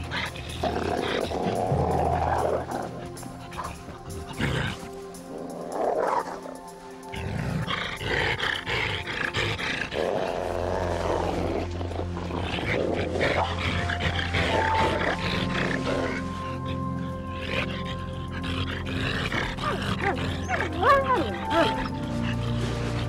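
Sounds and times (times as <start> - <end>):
animals snarling and growling: 0.0 - 23.0
background music with held notes: 0.0 - 23.0
low drone: 0.0 - 23.0.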